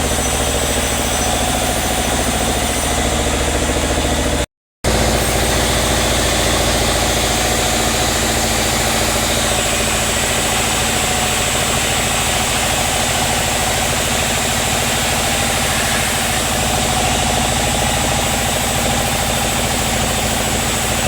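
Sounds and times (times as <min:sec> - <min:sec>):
sawmill engine droning: 0:00.0 - 0:21.0.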